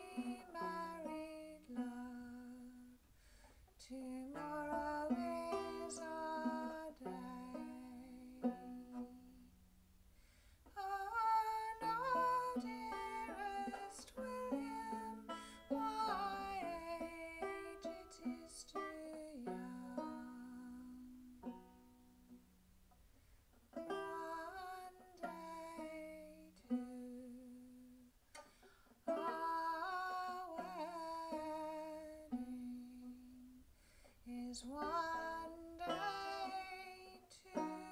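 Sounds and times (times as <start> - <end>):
woman singing folk song: 0.0 - 9.7, 10.4 - 22.4, 23.7 - 37.9
plucked banjo: 0.0 - 37.9.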